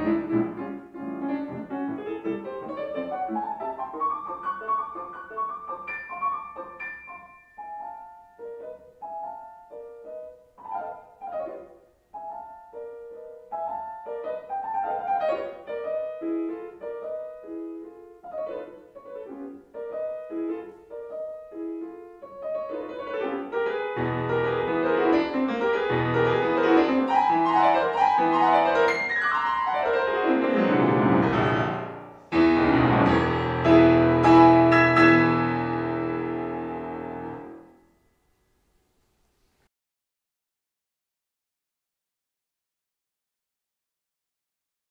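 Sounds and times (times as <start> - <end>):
solo grand piano: 0.0 - 39.7.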